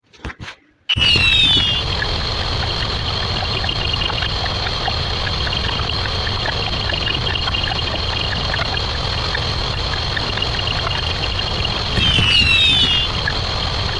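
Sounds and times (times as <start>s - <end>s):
blurred sped-up sound effects: 0.9s - 13.9s
small ticks: 1.0s - 13.9s.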